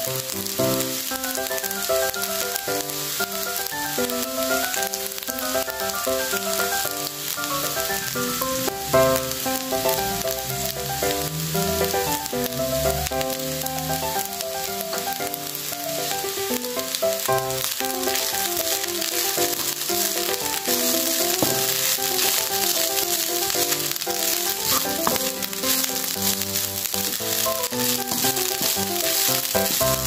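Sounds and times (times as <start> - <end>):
background music: 0.0 - 30.0
rice sizzling in oil: 0.0 - 30.0.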